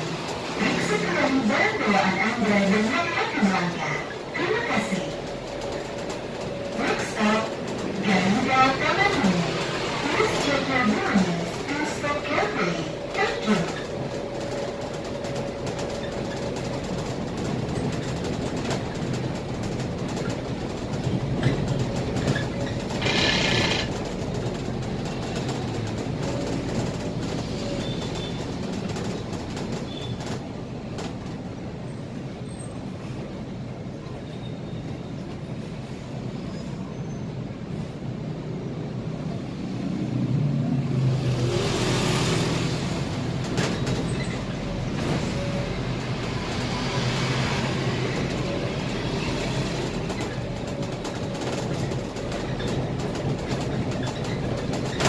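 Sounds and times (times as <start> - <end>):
bus engine hum: 0.0 - 55.0
road noise: 0.0 - 55.0.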